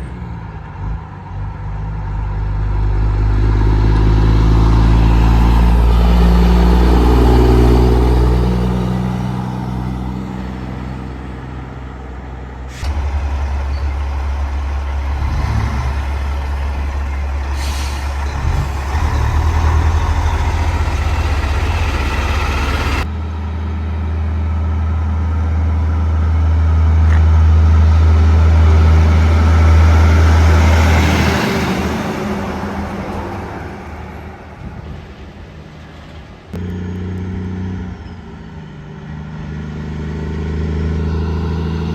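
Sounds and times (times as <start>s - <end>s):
diesel trucks driving past: 0.0s - 41.9s.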